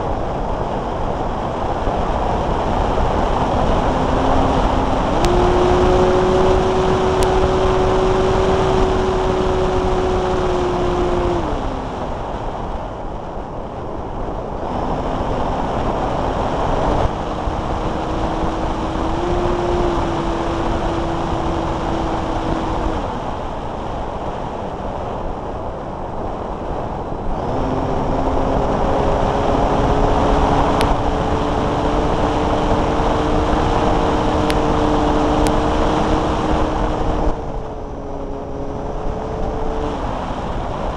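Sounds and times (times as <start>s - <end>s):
rushing airflow: 0.0s - 40.9s
electric motor and propeller buzzing: 1.7s - 12.8s, 14.5s - 24.4s, 26.7s - 40.9s.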